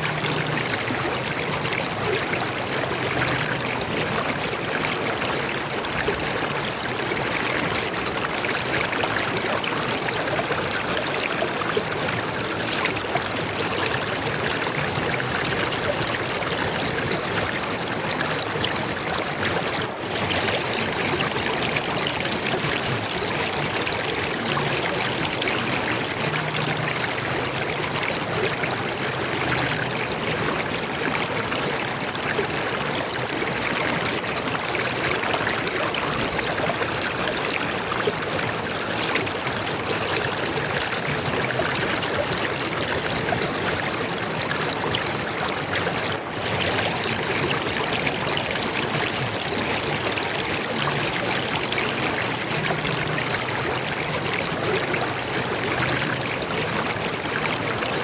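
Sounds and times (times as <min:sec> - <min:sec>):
stream water trickling and splashing: 0:00.0 - 0:58.0.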